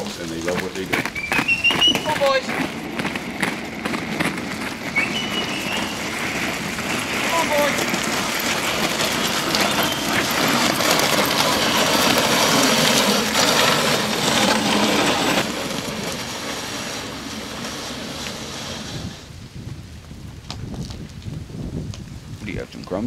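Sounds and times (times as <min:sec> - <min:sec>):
sled runners scraping icy snow: 0:00.0 - 0:23.0.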